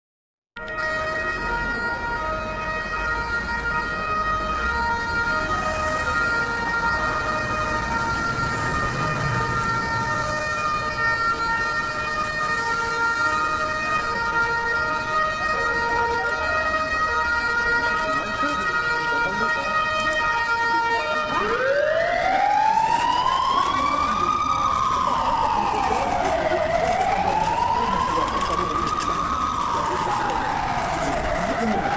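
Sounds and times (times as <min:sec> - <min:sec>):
ambulance siren: 0:00.6 - 0:31.9.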